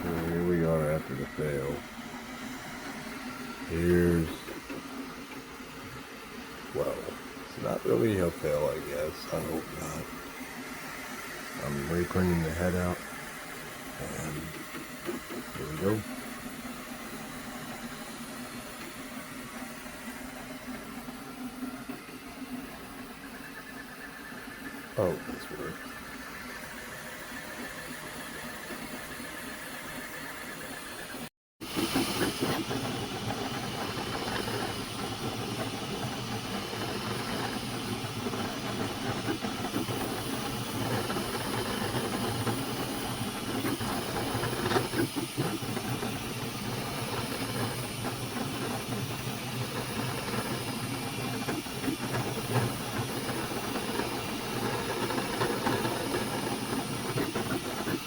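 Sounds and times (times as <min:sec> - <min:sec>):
cooling fans hissing: 0:00.0 - 0:30.7, 0:31.6 - 0:58.0.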